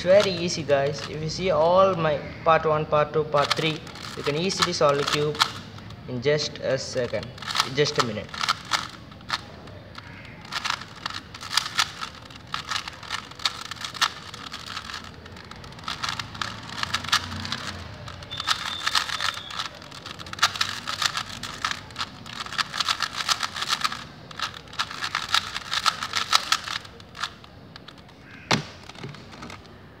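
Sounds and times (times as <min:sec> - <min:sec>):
puzzle cube plastic clicks: 0:00.0 - 0:02.0, 0:03.3 - 0:29.9.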